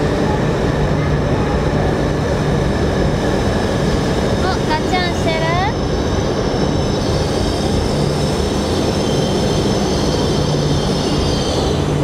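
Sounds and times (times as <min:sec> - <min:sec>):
high electric whine: 0:00.0 - 0:12.0
train rolling rumble: 0:00.0 - 0:12.0.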